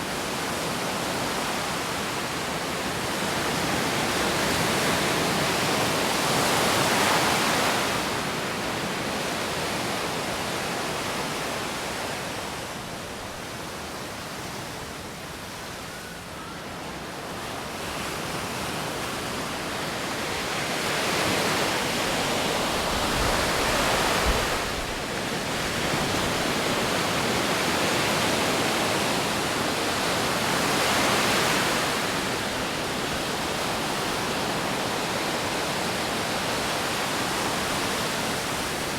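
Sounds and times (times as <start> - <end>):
surf breaking on a beach: 0.0 - 38.9
wind: 0.0 - 38.9.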